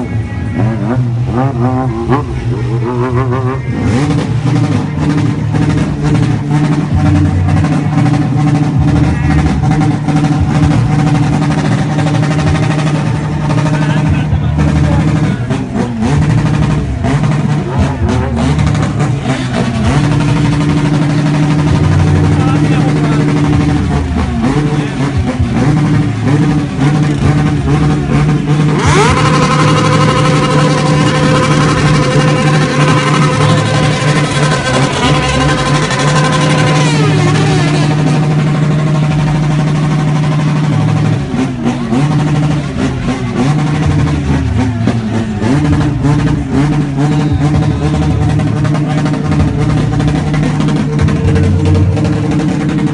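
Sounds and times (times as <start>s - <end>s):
engine rumbling through straight exhaust: 0.0s - 52.9s
people's voices: 0.0s - 52.9s.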